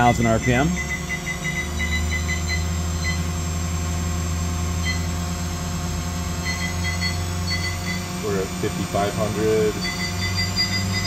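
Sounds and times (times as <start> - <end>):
machine spindle humming: 0.0 - 11.0.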